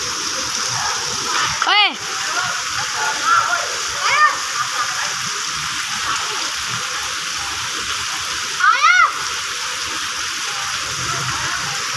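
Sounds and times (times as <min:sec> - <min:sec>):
steady rain hiss: 0:00.0 - 0:11.9.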